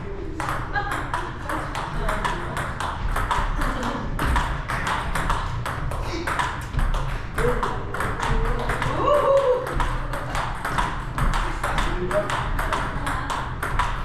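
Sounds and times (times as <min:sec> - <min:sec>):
table tennis balls clicking: 0:00.2 - 0:14.0.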